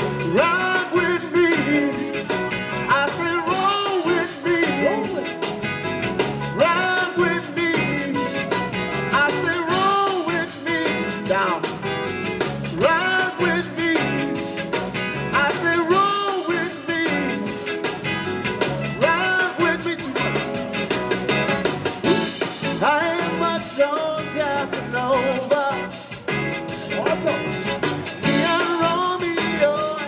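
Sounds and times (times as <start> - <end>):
live band on loudspeaker: 0.0 - 30.0.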